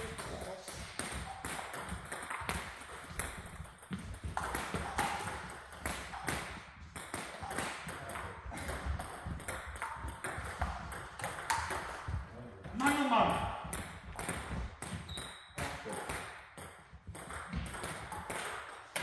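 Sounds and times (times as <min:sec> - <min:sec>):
table tennis balls clicking: 0:00.0 - 0:19.0.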